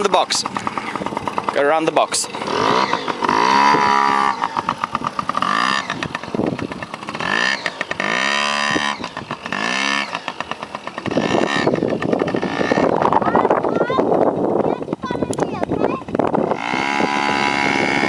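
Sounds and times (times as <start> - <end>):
motorbike engine revving: 0.0 - 18.0.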